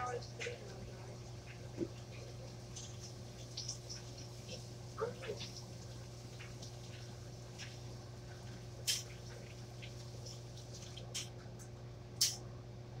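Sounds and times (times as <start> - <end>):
hands washing at sink: 0.0 - 12.4
steady low hum: 0.0 - 13.0.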